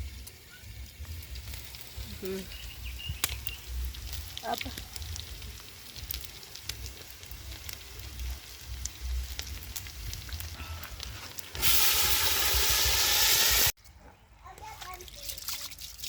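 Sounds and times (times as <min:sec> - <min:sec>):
food sizzling in hot oil: 0:00.0 - 0:10.5, 0:11.4 - 0:13.8
light crackling: 0:00.0 - 0:13.8.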